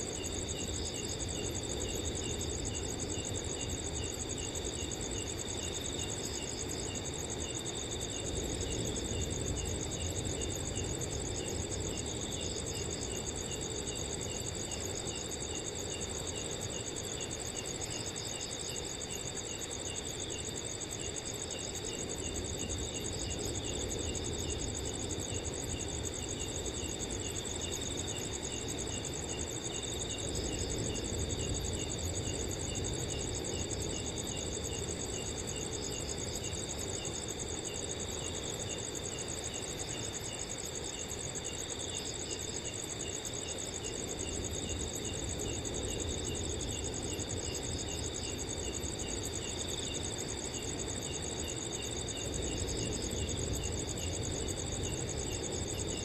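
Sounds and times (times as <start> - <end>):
cricket trilling: 0.0 - 56.0
insect chirping: 0.0 - 56.0.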